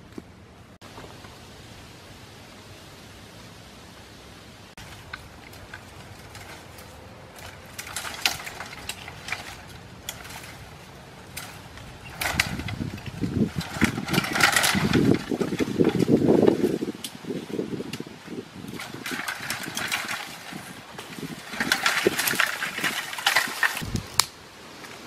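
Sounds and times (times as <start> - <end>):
branches rustling and snapping: 4.8 - 25.0.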